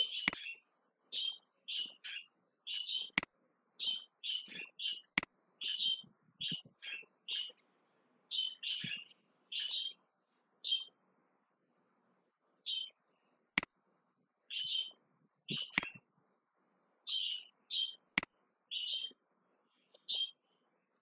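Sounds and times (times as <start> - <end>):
small bird chirping: 0.0 - 7.7, 8.3 - 11.0, 12.6 - 13.7, 14.4 - 16.1, 17.0 - 21.0.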